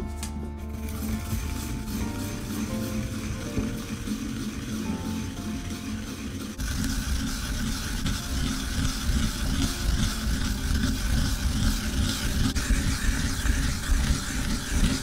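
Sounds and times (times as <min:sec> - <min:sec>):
apple scraping on a grater: 0:00.6 - 0:15.0.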